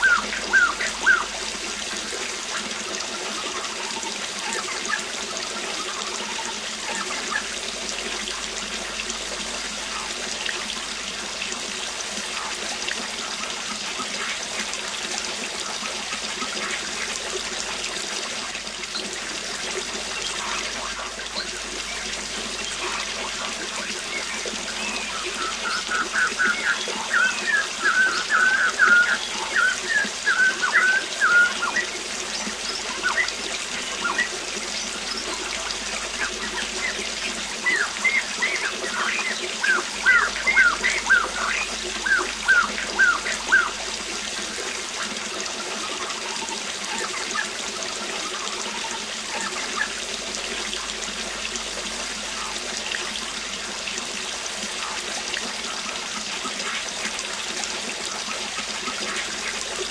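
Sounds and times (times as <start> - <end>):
waterfall running: 0.0 - 59.9.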